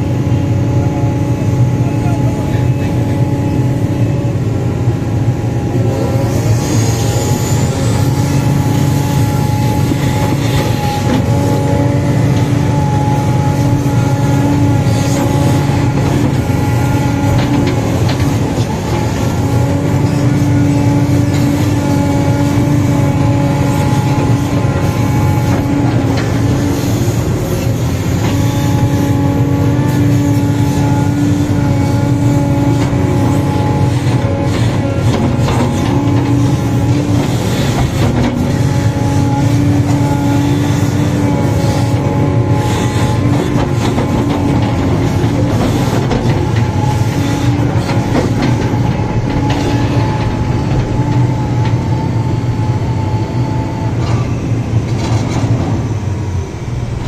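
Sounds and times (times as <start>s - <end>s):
excavator engine drone: 0.0s - 57.0s
hydraulic whine: 0.0s - 57.0s.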